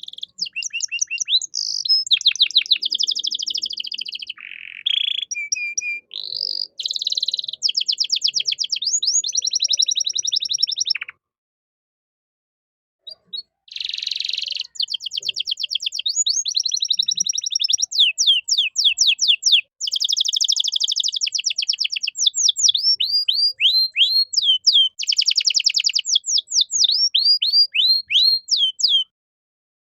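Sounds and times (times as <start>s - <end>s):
canary singing: 0.0s - 11.2s, 13.0s - 29.1s.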